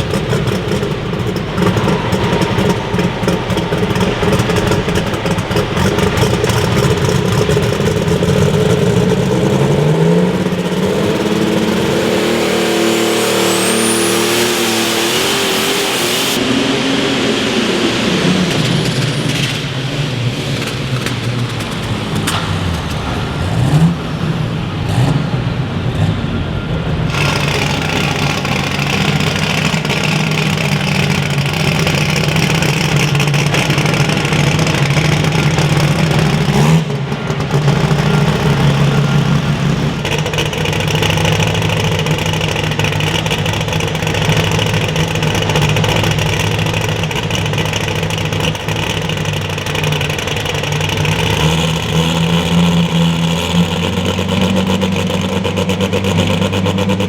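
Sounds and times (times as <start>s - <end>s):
truck engine at high revs: 0.0s - 57.0s.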